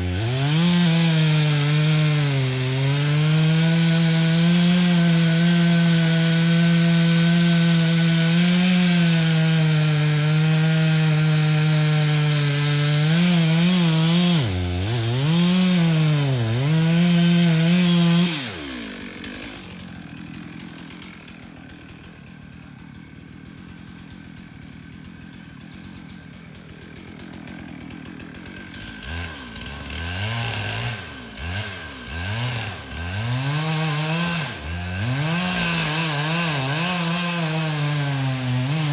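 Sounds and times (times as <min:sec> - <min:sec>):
chainsaw cutting and revving: 0:00.0 - 0:38.9.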